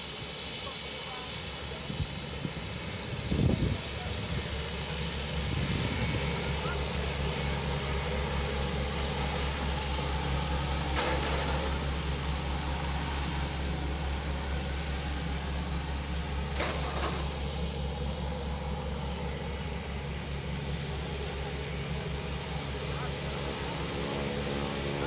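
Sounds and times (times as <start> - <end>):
turboprop engine droning: 0.0 - 25.0.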